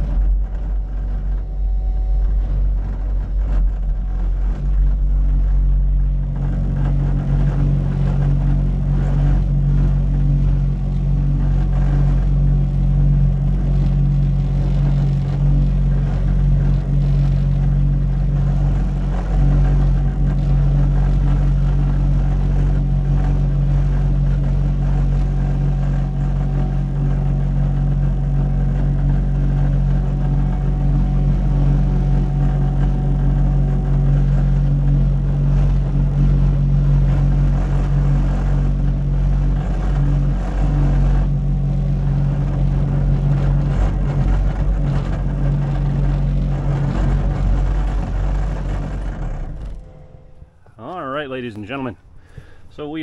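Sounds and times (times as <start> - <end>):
engine humming steadily: 0.0 - 53.0.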